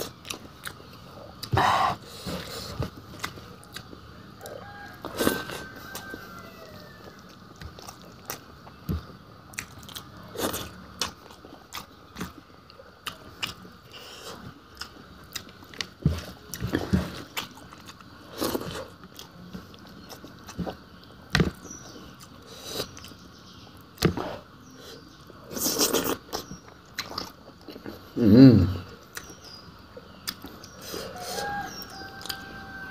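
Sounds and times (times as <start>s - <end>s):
person chewing and crunching: 0.0s - 6.3s, 7.0s - 23.2s, 24.0s - 28.2s, 28.9s - 32.4s.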